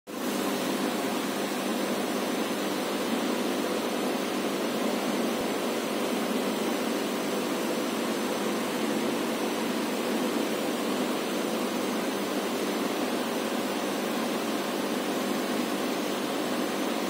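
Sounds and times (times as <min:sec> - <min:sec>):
aquarium water rushing: 0:00.1 - 0:17.0.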